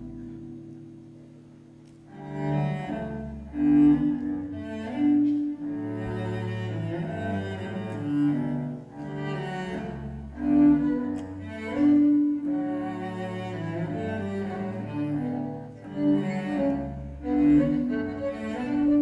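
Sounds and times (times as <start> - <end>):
bass: 0.0 - 19.0
bowed cello and violin: 0.0 - 19.0.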